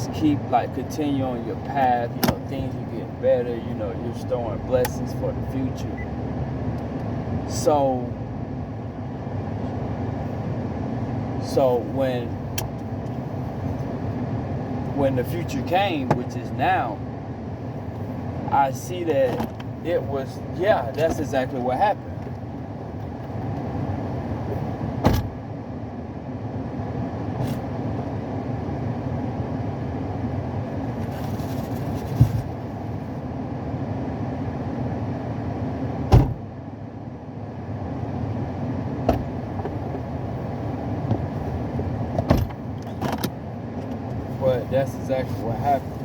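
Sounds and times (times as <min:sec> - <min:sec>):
low vehicle rumble: 0:00.0 - 0:46.0.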